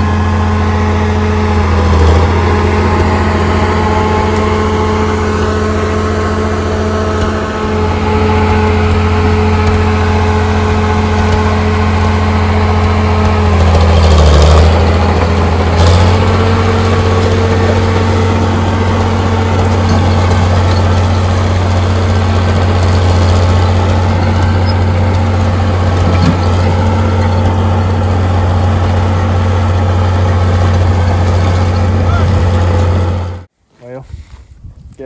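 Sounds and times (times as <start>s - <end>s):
bulldozer diesel engine idling: 0.0s - 33.5s.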